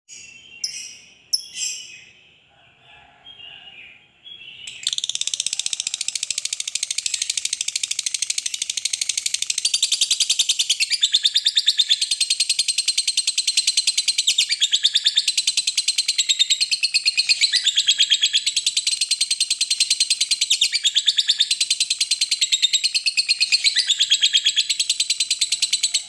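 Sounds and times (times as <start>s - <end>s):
bird chattering shrilly: 4.7s - 26.0s.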